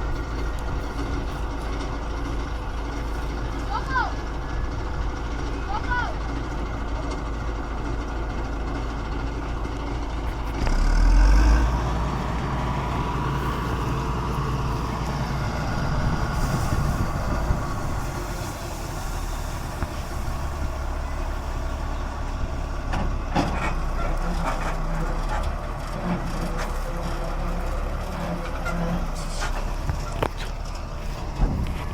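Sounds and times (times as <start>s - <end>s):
combine harvester engine running: 0.0s - 31.9s.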